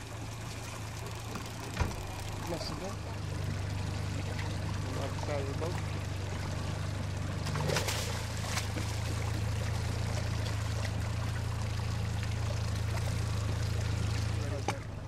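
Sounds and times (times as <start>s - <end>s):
fish splashing water: 0.0s - 14.9s
outboard motor idling: 0.0s - 15.0s.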